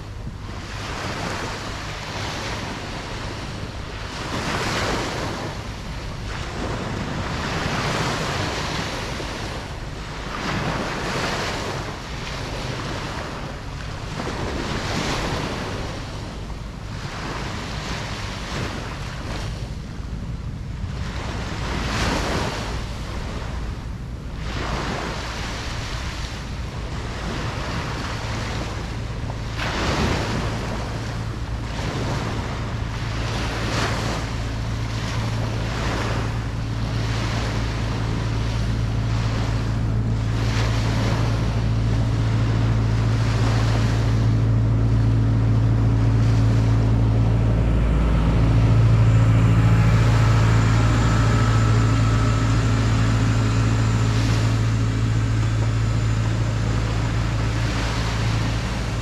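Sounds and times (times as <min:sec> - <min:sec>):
ocean surf washing onto beach: 0:00.0 - 0:59.0
steady low rumble: 0:00.0 - 0:59.0.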